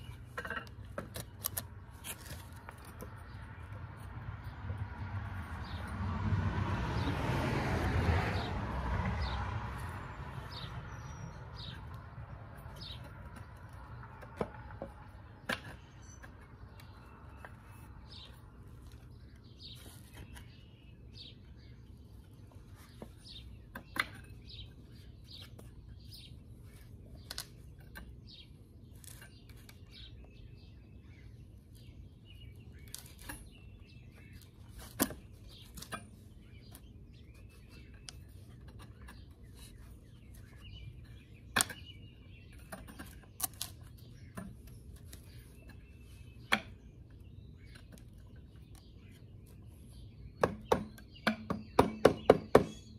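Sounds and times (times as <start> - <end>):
birds chirping: 0.0 - 4.9, 8.3 - 52.9.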